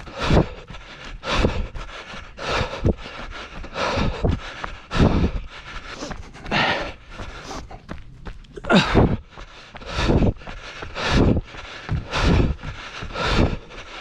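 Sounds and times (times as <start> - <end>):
runner breathing hard: 0.0 - 14.0
footfalls on dirt trail: 2.5 - 13.7.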